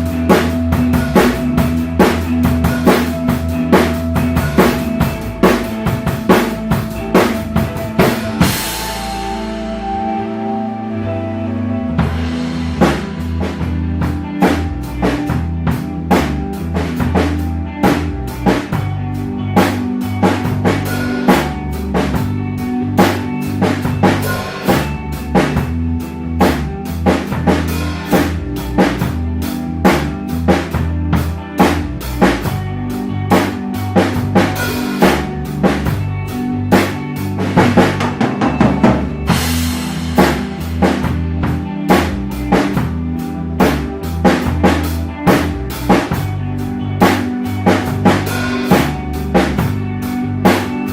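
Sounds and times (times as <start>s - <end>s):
drum kit rock groove: 0.0s - 10.2s, 11.9s - 50.9s
ambient rock backing track: 0.0s - 50.9s.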